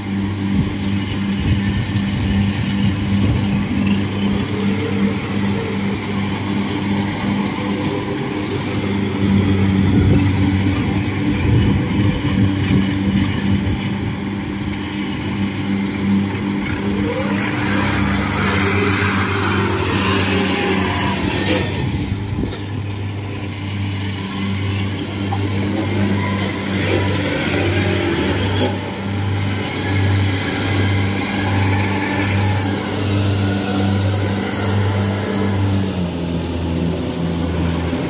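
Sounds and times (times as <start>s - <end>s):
combine harvester engine droning: 0.0s - 38.0s.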